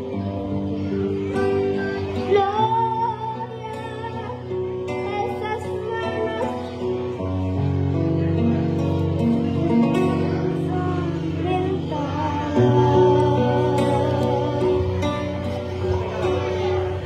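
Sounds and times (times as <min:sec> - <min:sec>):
strummed acoustic guitar: 0:00.0 - 0:17.0
boy singing into a microphone: 0:00.1 - 0:07.1, 0:09.5 - 0:17.0.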